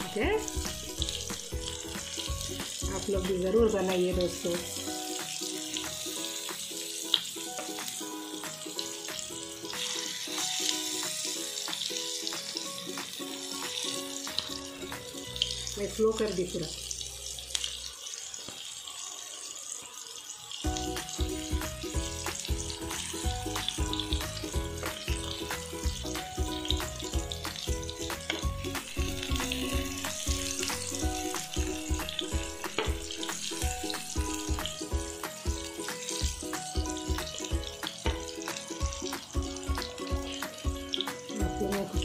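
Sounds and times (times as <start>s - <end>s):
music with a steady beat: 0.0s - 4.3s, 4.9s - 15.1s, 20.7s - 42.0s
okra sizzling in oil: 0.0s - 42.0s.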